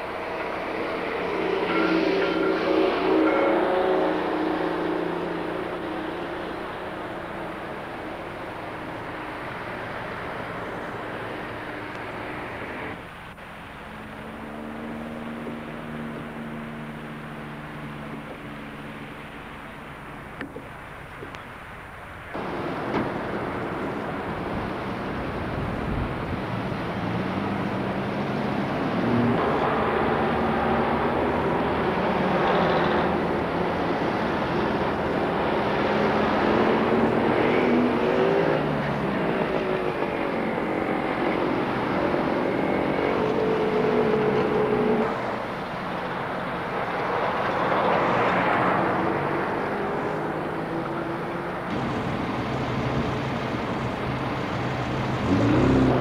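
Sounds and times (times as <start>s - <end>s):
cars driving past: 0.0s - 20.7s, 22.3s - 56.0s
road noise: 0.0s - 56.0s.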